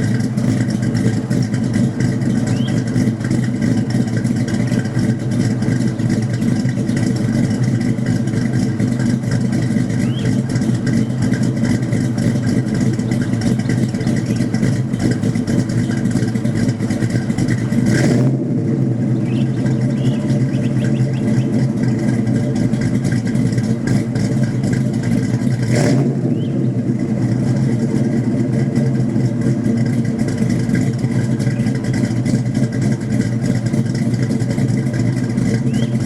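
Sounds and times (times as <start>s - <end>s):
car engine exhaust idling: 0.0s - 36.0s.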